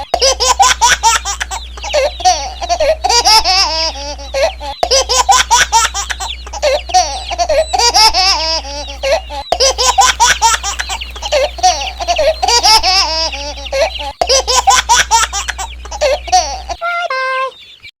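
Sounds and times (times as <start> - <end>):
high-pitched giggling laughter: 0.0 - 17.6.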